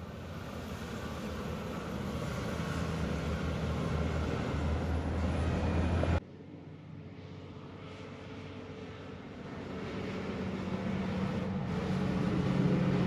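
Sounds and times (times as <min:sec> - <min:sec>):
truck driving past: 0:00.0 - 0:13.0.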